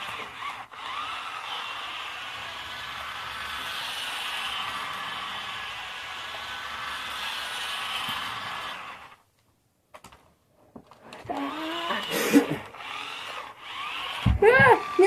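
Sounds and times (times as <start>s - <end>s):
toy car electric motor whirring: 0.0s - 9.2s, 10.8s - 15.0s.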